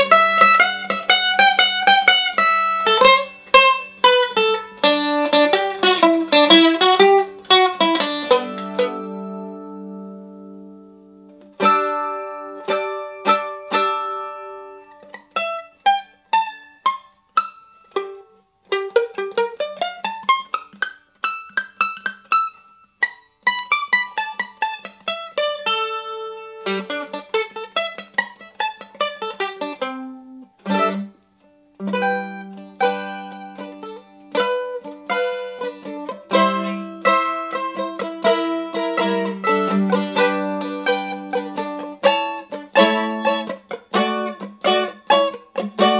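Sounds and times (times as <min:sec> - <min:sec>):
mandolin playing: 0:00.0 - 0:45.9.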